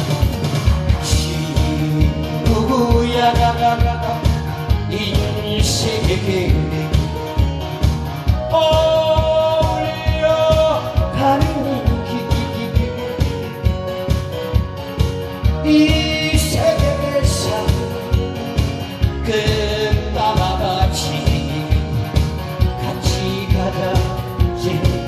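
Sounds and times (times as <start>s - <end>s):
upbeat backing track with drums: 0.0s - 25.0s
man singing into a microphone: 0.7s - 13.8s, 15.5s - 25.0s.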